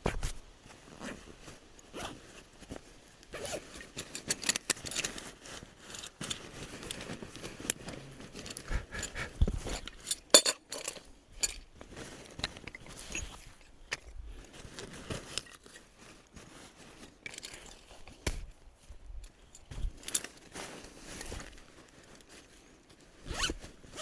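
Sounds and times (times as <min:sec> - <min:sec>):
camping gear clicks and scrapes: 0:00.0 - 0:24.0.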